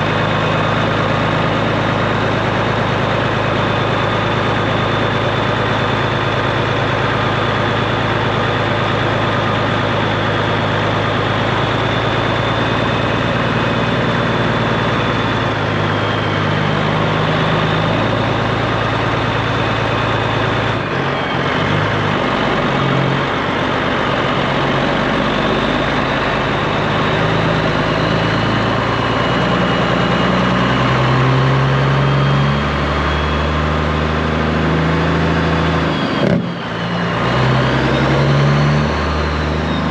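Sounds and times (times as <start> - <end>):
diesel truck engine revving: 0.0 - 39.9.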